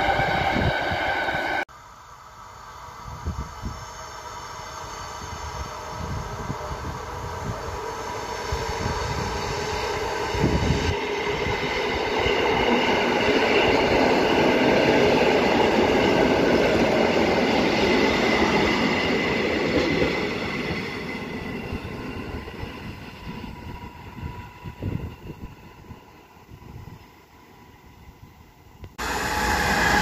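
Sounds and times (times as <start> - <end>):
train passing by: 0.0 - 30.0.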